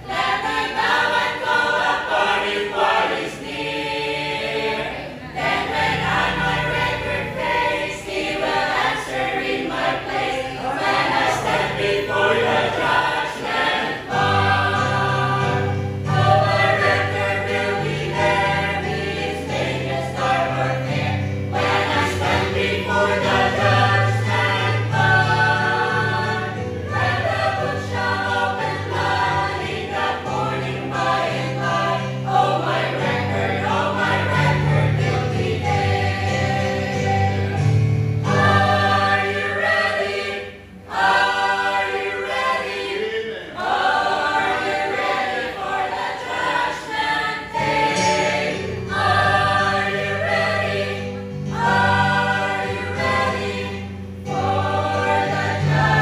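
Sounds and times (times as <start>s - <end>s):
mixed choir singing hymn: 0.0s - 56.0s.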